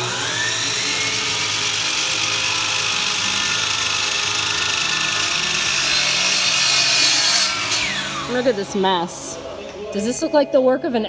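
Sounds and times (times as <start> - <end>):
electric power saw cutting board: 0.0 - 9.5.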